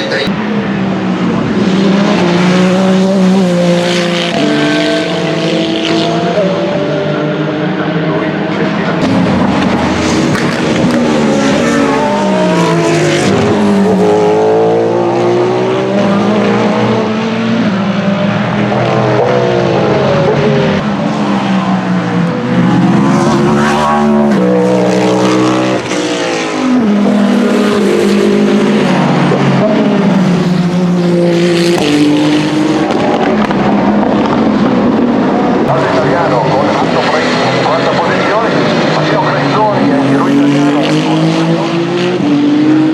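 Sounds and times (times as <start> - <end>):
race cars accelerating past: 0.2 - 42.9.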